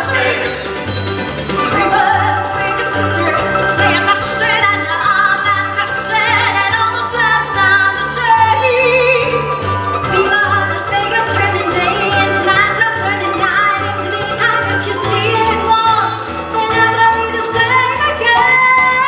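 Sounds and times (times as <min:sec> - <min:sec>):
pulsing bass line: 0:00.0 - 0:19.0.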